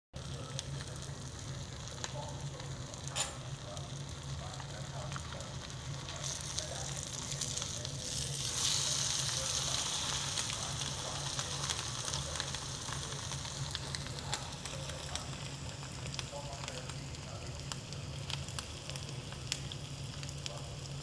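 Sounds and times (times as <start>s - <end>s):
food sizzling in a frying pan: 0.2s - 21.0s.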